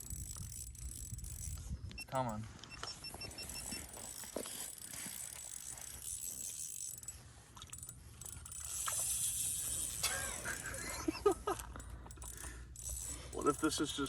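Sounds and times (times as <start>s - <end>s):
fishing reel clicking and ratcheting: 0.0s - 14.0s.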